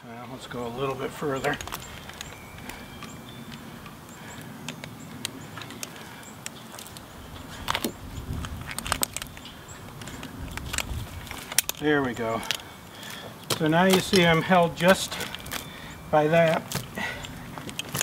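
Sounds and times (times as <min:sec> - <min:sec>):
rope and clothing rustling: 0:00.3 - 0:18.0
carabiners clinking: 0:00.4 - 0:18.0.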